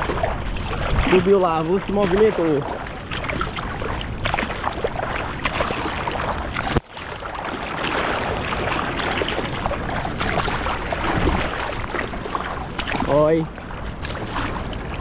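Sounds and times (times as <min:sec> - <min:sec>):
seawater lapping and splashing: 0:00.0 - 0:15.0.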